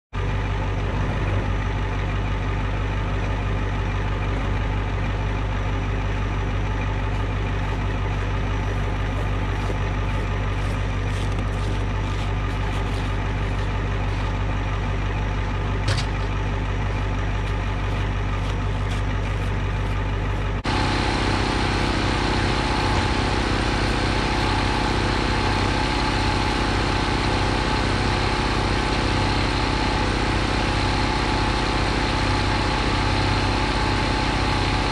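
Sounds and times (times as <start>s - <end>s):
portable generator engine running: 0.2s - 34.9s.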